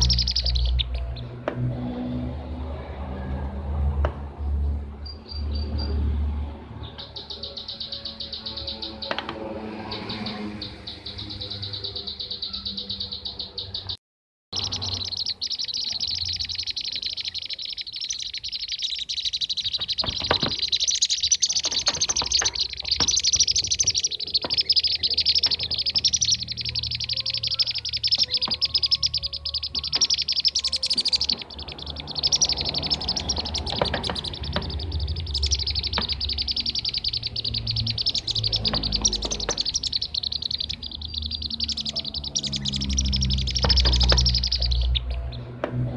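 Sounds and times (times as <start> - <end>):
bee-eaters chirping: 0.0 - 1.3, 6.8 - 14.0, 14.6 - 45.6.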